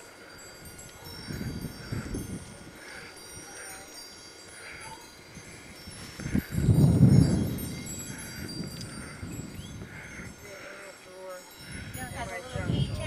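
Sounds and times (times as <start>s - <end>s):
high tinkling tones: 0.0s - 13.0s.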